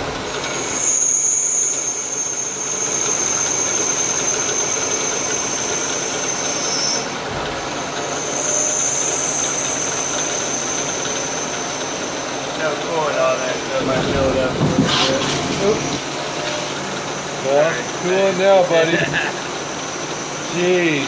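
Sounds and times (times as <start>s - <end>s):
lathe machine noise with high whine: 0.0s - 21.0s.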